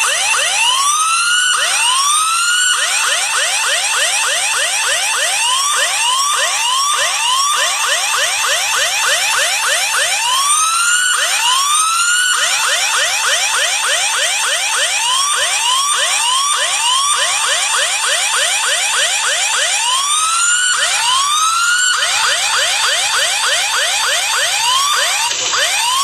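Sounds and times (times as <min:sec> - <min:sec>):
siren from phone speaker: 0:00.0 - 0:26.0.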